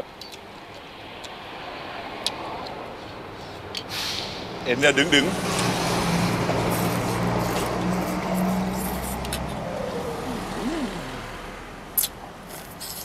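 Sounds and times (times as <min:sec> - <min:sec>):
road noise: 0:00.0 - 0:13.0
vehicle engine passing: 0:01.0 - 0:12.9.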